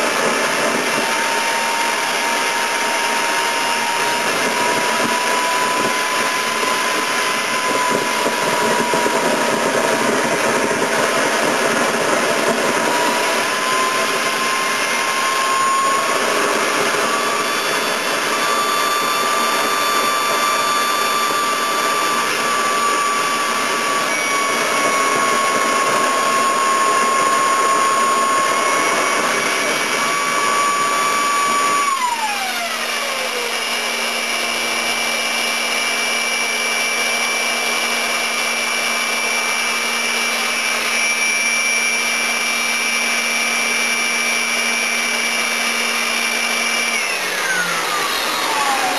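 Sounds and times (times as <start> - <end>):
low hum: 0.0 - 48.9
small turbojet engine running: 0.0 - 48.9
turbine whine: 0.0 - 48.9.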